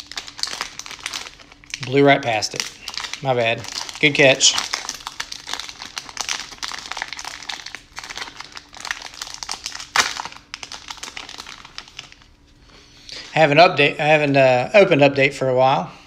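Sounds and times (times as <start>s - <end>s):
plastic wrapper crinkling: 0.0s - 13.4s.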